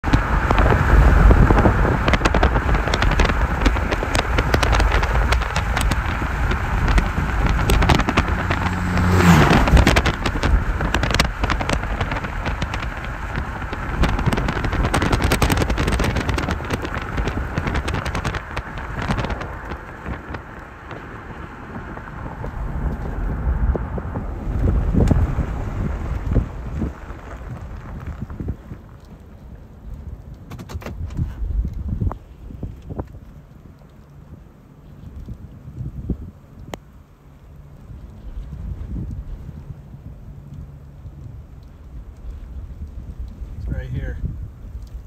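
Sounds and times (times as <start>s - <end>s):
strong wind buffeting microphone: 0.0s - 45.0s.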